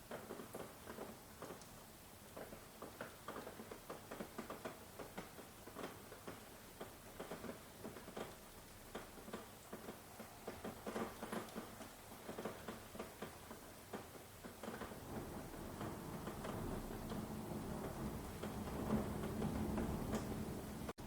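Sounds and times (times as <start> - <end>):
light rain pattering: 0.0 - 21.0.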